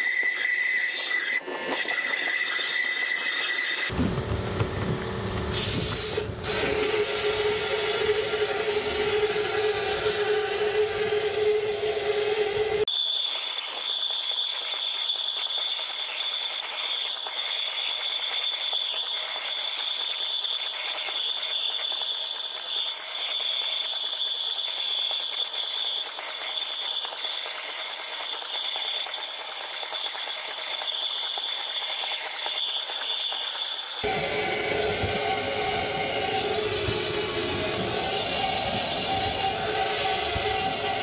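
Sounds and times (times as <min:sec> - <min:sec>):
blast nozzle hissing and whistling: 0:00.0 - 0:04.0, 0:05.5 - 0:41.0.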